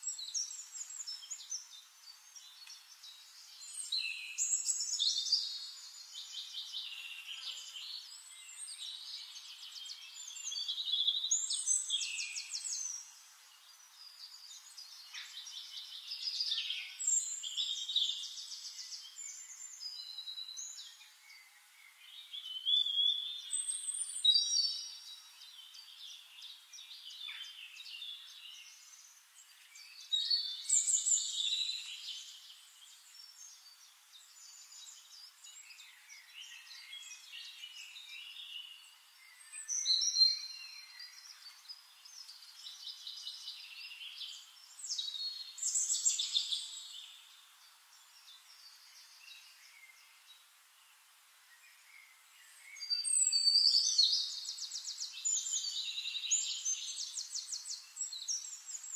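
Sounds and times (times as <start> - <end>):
faint outdoor hiss: 0.0 - 58.9
songbirds trilling and chirping: 0.0 - 58.9.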